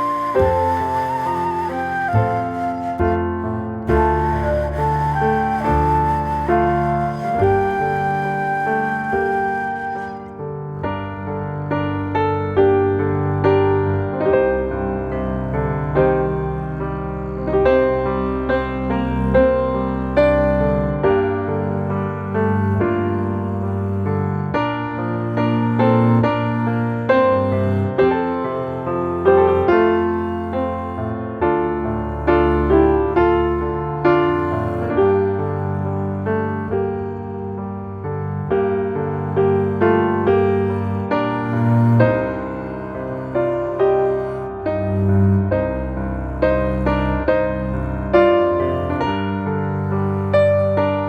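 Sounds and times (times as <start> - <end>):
soft piano melody: 0.0 - 51.0.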